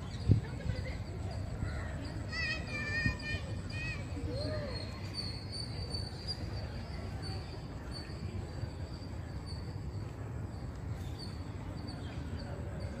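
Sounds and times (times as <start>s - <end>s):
faint high-pitched chirping: 0.0s - 13.0s.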